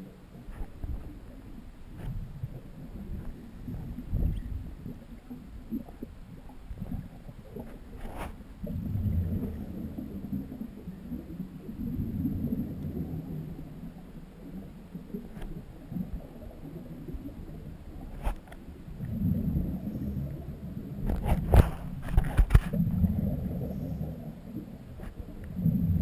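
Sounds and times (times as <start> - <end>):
underwater regulator bubbles rumbling: 0.0 - 26.0.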